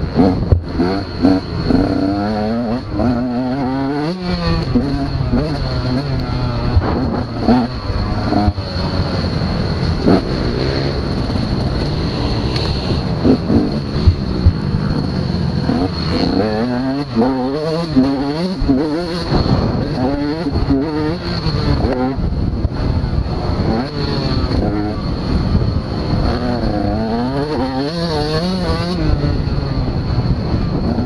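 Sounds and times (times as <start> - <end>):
motocross bike engines: 0.0 - 31.0.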